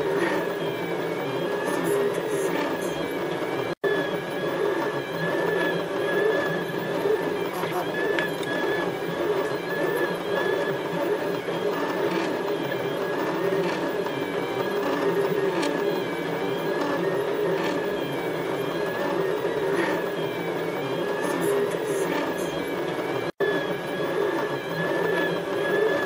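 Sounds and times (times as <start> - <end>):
printer motors whirring: 0.0 - 26.0.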